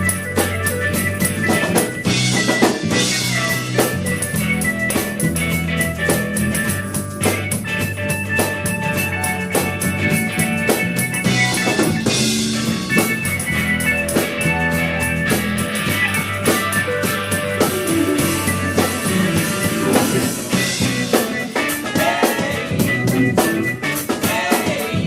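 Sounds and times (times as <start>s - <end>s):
drum kit steady beat: 0.0s - 25.0s
electric guitar: 0.0s - 25.0s.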